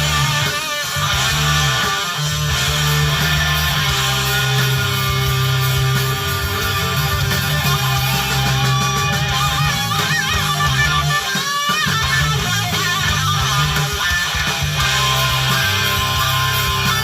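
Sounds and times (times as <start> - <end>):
electric guitar lead bending: 0.0 - 17.0
steady bass: 0.0 - 17.0.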